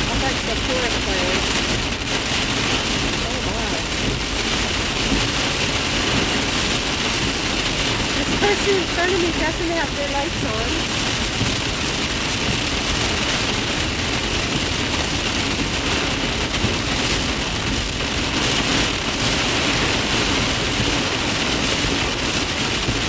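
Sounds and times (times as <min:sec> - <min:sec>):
heavy rain on car roof: 0:00.0 - 0:23.0
tyre and road noise: 0:00.0 - 0:23.0.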